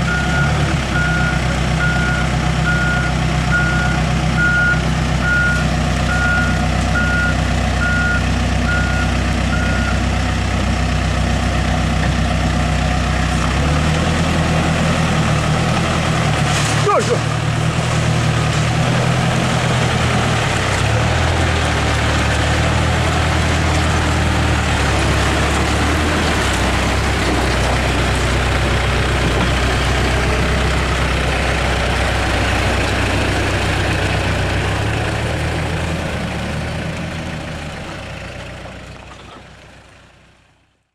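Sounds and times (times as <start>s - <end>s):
diesel engines droning: 0.0s - 40.9s.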